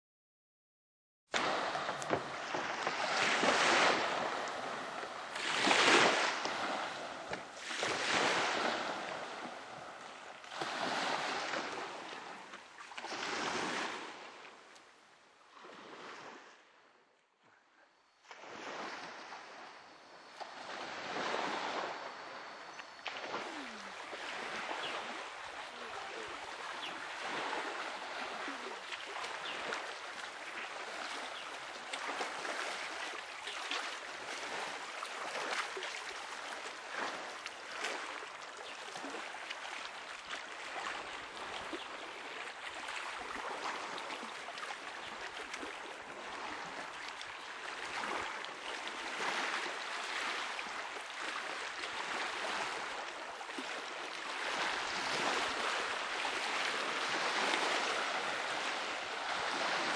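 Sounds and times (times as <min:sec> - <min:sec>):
small waves lapping: 0:01.3 - 0:59.9.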